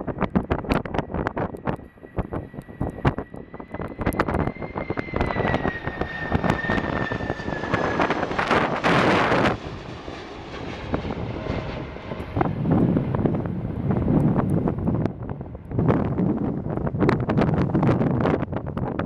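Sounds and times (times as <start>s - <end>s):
jet engine whine: 0.0s - 19.0s
wind buffeting microphone: 0.0s - 19.0s.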